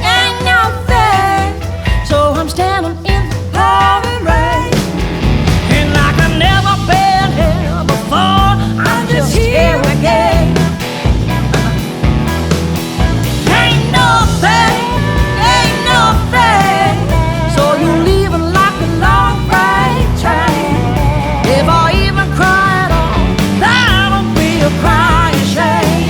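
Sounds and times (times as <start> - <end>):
country-rock band music: 0.0 - 26.0
bent wavering lead guitar line: 4.3 - 26.0.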